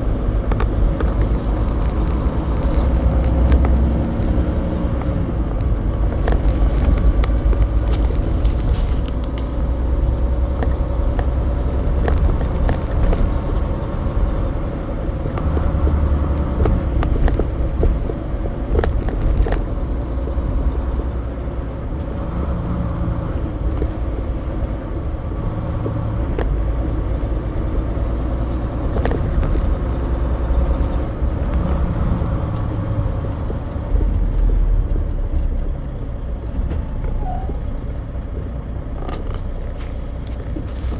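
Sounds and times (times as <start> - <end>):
diesel truck engine: 0.0 - 40.9
road rumble: 0.0 - 40.9
sharp rattles and knocks: 0.1 - 22.4, 23.0 - 40.9.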